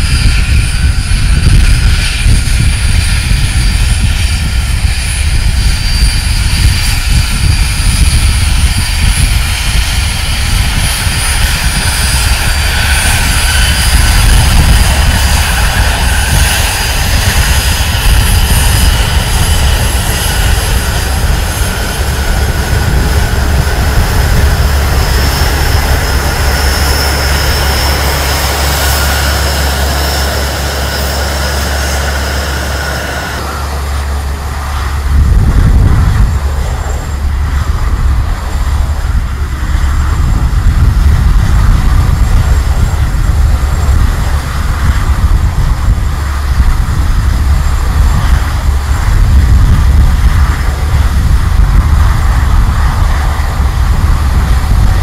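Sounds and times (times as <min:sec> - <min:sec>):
jet engines whining and rumbling: 0:00.0 - 0:55.0.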